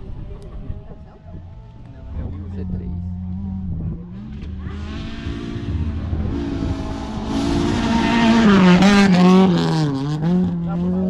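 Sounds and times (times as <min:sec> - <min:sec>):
rally car engine with gear changes: 0:00.0 - 0:11.0.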